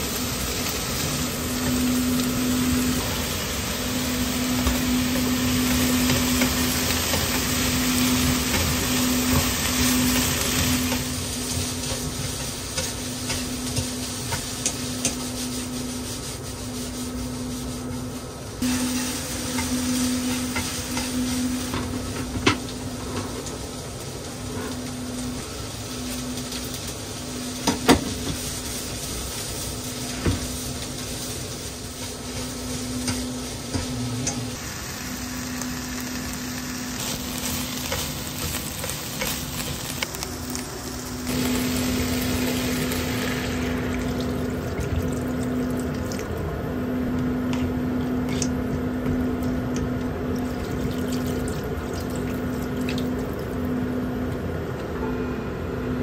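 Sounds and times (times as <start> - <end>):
food sizzling in frying pan: 0.0 - 54.4.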